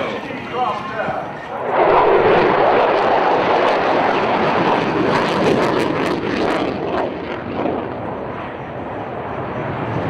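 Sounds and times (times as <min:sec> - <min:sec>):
fighter jets flying past: 0:00.0 - 0:10.0.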